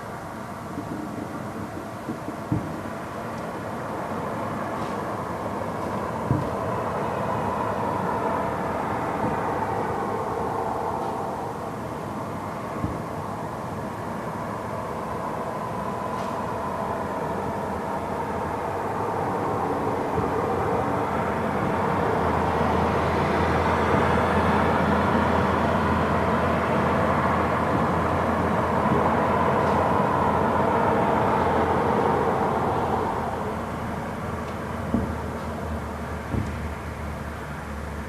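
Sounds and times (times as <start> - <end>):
vehicle rumble: 0.0 - 38.0.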